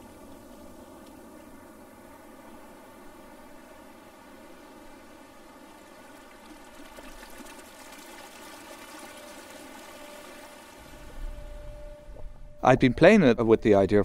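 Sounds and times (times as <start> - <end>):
faint rushing water: 0.0 - 12.0.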